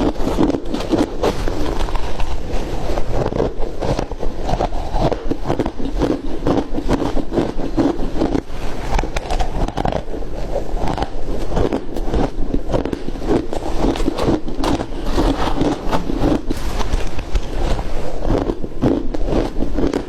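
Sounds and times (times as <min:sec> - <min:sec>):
ice being crunched and chewed: 0:00.0 - 0:20.0.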